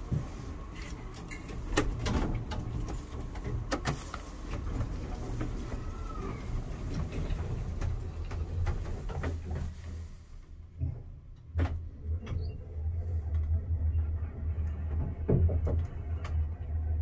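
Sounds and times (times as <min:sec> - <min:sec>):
lift car low hum: 0:00.0 - 0:17.0.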